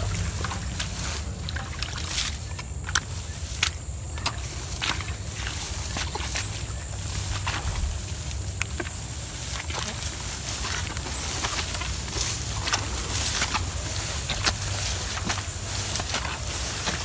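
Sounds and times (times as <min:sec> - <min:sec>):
footsteps through tall grass: 0:00.0 - 0:17.0
steady low rumble: 0:00.0 - 0:17.0.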